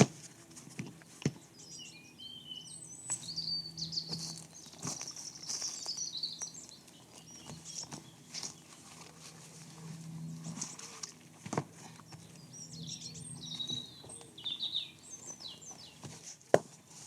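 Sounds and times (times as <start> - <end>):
faint low hum: 0.0 - 16.2
small birds singing and chirping: 1.0 - 11.2, 11.8 - 16.3.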